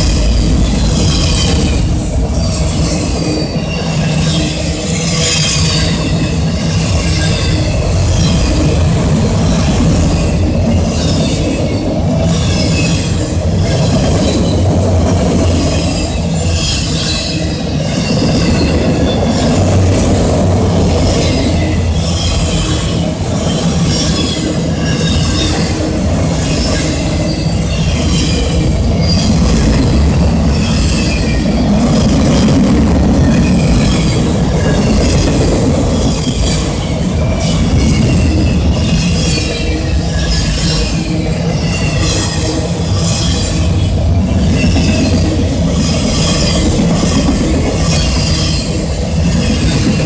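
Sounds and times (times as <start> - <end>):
steel wheels rumbling on rail: 0.0 - 50.0.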